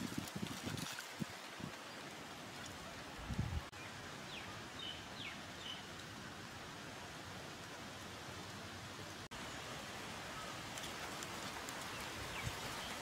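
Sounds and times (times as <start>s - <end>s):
outdoor hiss: 1.5s - 13.0s.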